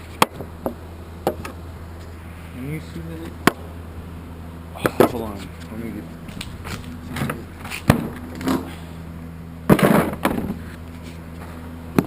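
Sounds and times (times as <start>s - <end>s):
engine idling with steady hum: 0.0s - 12.0s.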